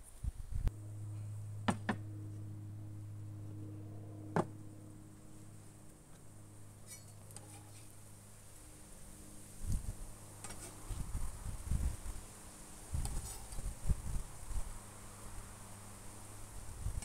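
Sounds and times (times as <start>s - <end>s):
steady low buzz: 0.0s - 17.0s.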